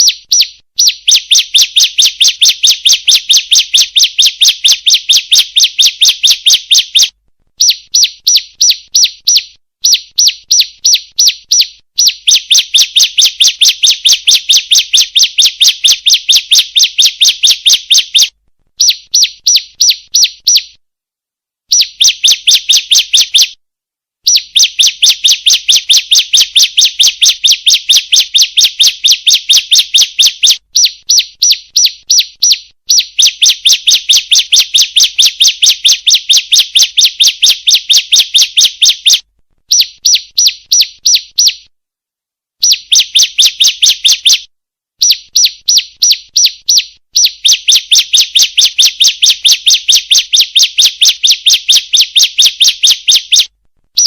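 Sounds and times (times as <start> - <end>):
bird calling with rapid high chips: 0.0 - 20.8, 21.7 - 23.6, 24.2 - 41.7, 42.6 - 54.0.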